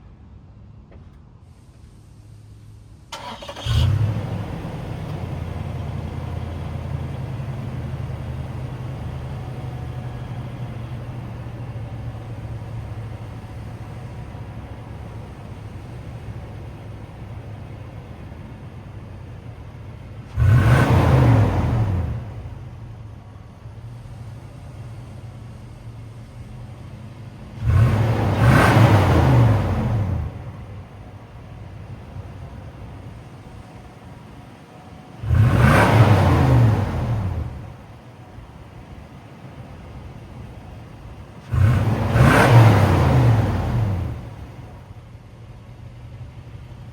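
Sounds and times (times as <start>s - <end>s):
truck engine revving and idling: 3.2s - 46.9s.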